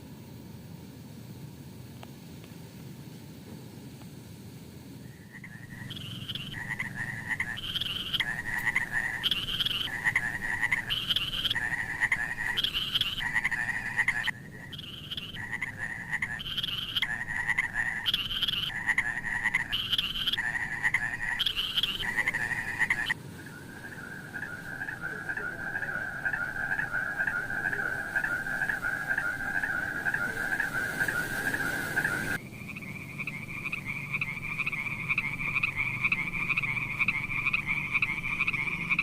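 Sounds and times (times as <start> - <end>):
frogs croaking: 4.8 - 39.0.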